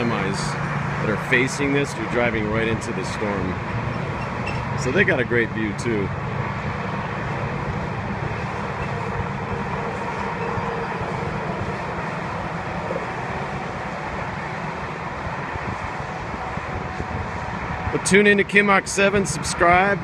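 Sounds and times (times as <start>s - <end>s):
highway traffic: 0.0s - 20.0s.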